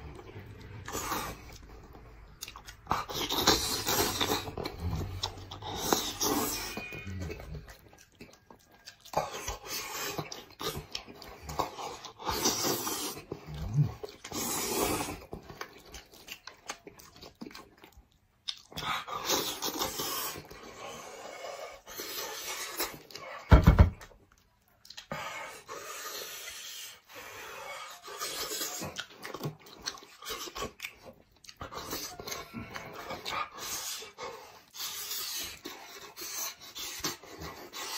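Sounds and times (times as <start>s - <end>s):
wet chewing and slurping: 0.0s - 37.9s.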